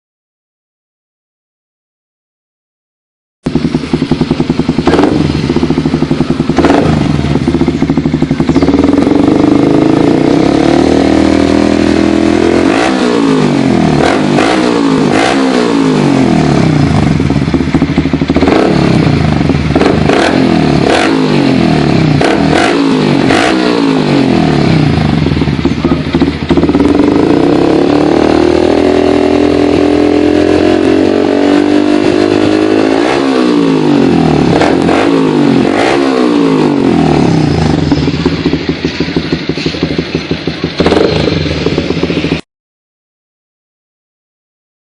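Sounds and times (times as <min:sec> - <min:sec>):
motorcycle engine revving: 0:03.4 - 0:42.4.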